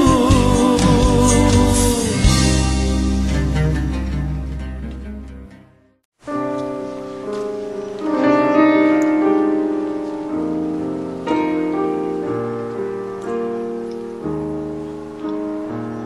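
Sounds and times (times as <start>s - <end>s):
slow piano music: 0.0s - 5.6s, 6.2s - 16.0s.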